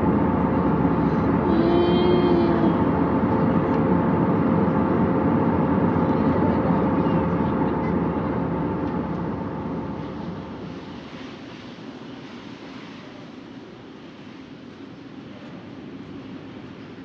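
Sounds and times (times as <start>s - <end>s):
airliner cabin engine drone: 0.0s - 17.0s
faint steady hum: 0.0s - 17.0s.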